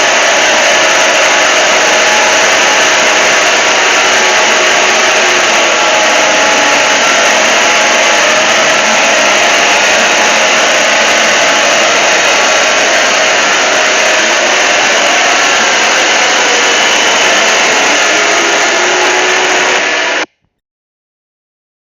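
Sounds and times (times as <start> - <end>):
distorted harsh alarm noise: 0.0 - 20.3.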